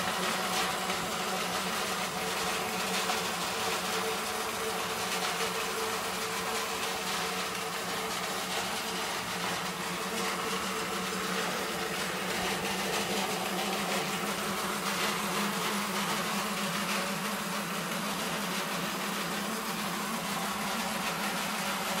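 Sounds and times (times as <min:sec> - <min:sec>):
grain mill motor whirring hum: 0:00.0 - 0:22.0.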